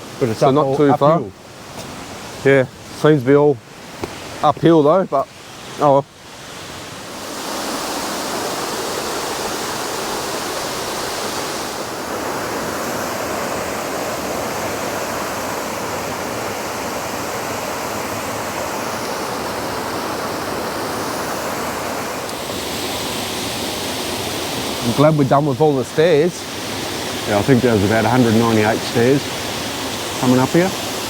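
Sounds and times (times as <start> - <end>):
waterfall roar: 3.9 - 31.0.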